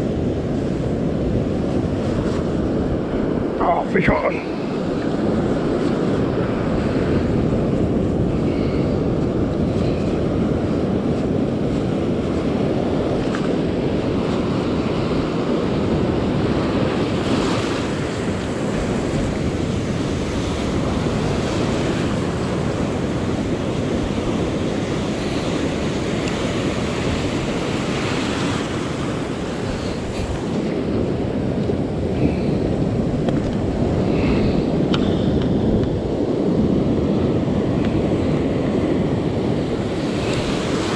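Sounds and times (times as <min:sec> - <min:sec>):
ocean surf breaking: 0:00.0 - 0:40.9
wind on microphone: 0:00.0 - 0:40.9.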